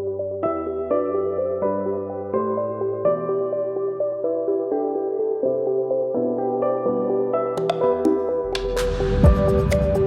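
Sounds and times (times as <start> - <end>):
calm ambient music: 0.0 - 10.0.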